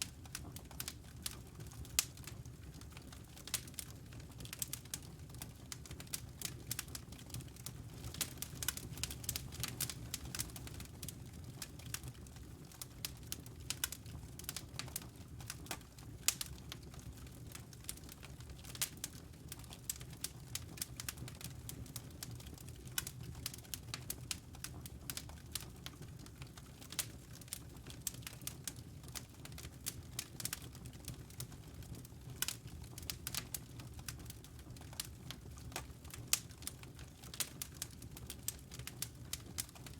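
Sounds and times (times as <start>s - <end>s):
fire crackling and popping: 0.0s - 39.9s
soft rumble of flame: 0.0s - 39.9s.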